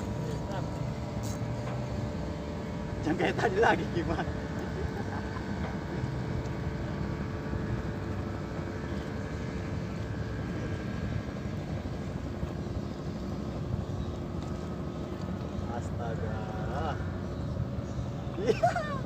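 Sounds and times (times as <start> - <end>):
boat motor droning: 0.0 - 19.0
faint steady hum: 0.0 - 19.0.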